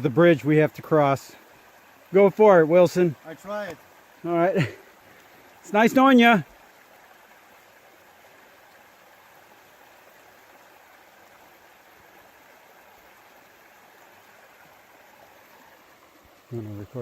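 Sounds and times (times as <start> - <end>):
stream flowing water: 0.0 - 17.0.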